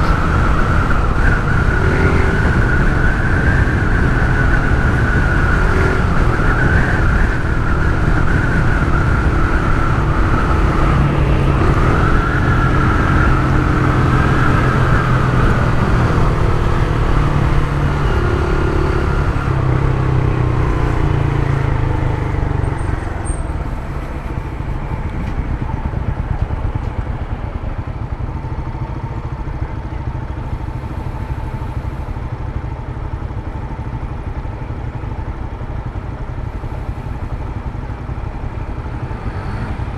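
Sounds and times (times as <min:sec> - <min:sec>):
motorcycle engine revving: 0:00.0 - 0:31.9, 0:36.9 - 0:39.9.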